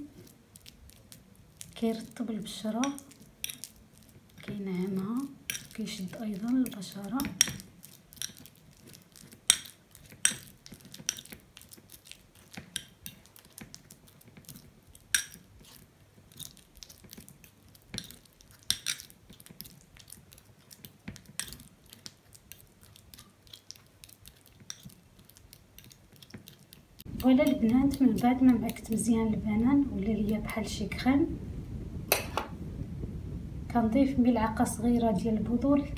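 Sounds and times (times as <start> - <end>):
soft mashing: 0.0 - 30.8.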